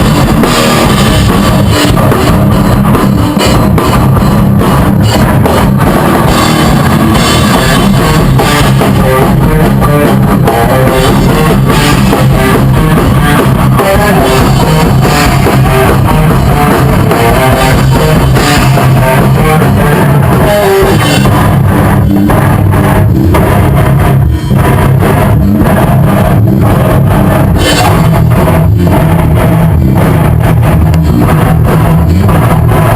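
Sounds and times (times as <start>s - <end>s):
rock band playing: 0.0s - 32.9s.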